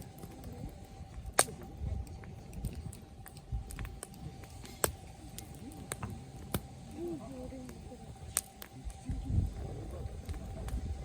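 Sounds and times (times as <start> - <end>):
campfire crackling: 0.0 - 11.0
sharp pops of burning wood: 0.0 - 11.0.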